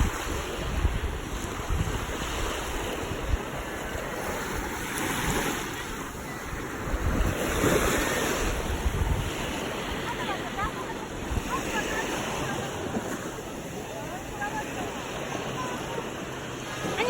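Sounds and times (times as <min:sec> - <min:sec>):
wind buffeting microphone: 0:00.0 - 0:16.2
sea waves washing ashore: 0:00.0 - 0:17.0.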